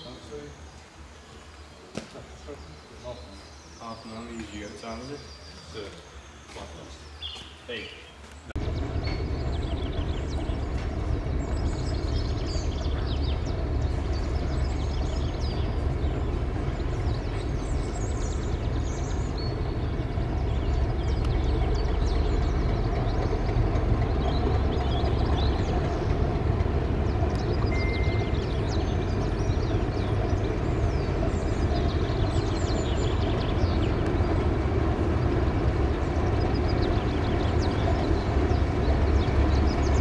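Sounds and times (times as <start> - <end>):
low rumble of a train: 0.0 - 40.0
small birds chirping: 0.0 - 40.0.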